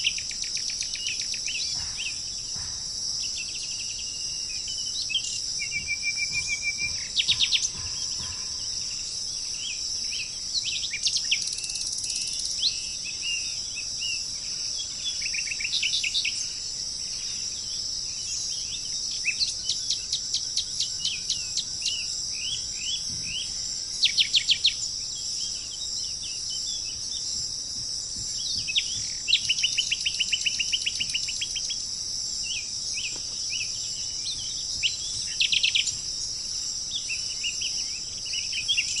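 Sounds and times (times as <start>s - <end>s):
high-pitched insect drone: 0.0s - 39.0s
small birds chirping: 0.0s - 39.0s.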